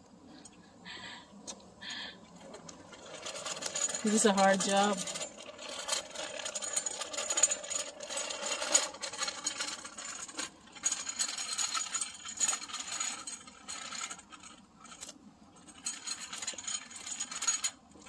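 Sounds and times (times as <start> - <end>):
bike rattling and clicking: 2.4 - 17.7.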